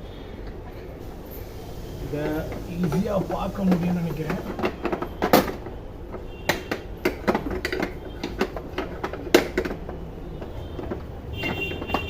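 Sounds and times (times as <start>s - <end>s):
clicks and knocks handling parts: 2.2s - 12.0s.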